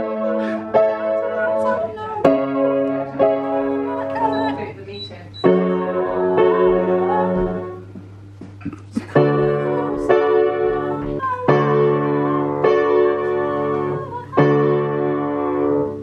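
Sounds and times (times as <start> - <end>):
piano chords ringing: 0.0 - 8.3, 9.1 - 16.0
low steady hum: 0.0 - 16.0.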